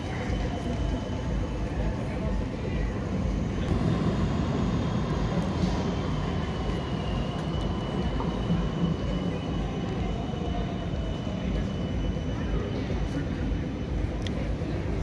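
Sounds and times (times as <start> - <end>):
faint high whine: 0.0 - 15.0
moving vehicle rumble: 0.0 - 15.0.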